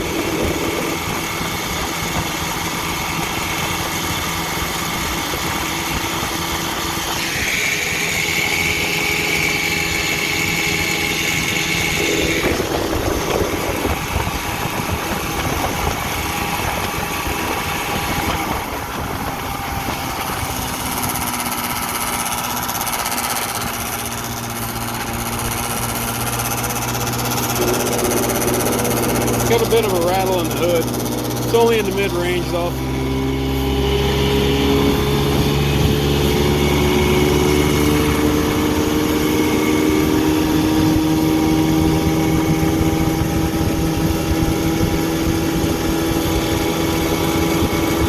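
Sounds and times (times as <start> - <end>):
outboard motor running: 0.0 - 48.0.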